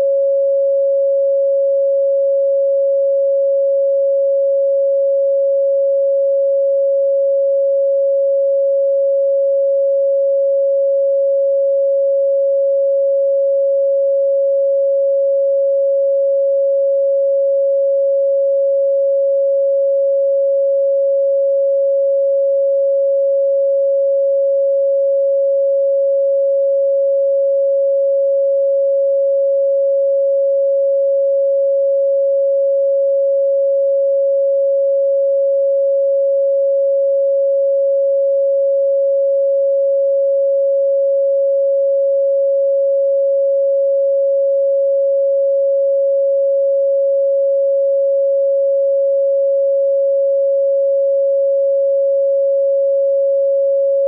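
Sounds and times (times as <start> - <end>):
steady sine tone: 0.0 - 54.0.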